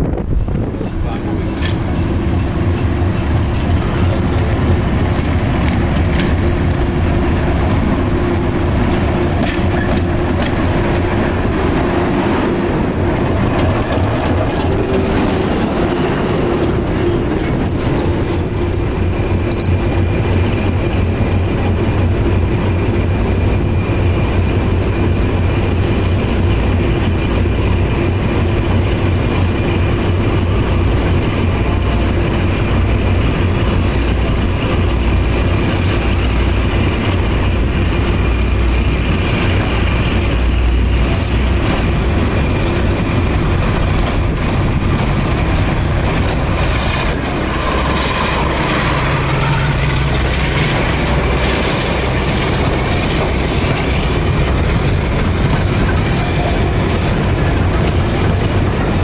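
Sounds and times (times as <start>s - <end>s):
diesel locomotive engine throbbing: 0.0s - 59.0s.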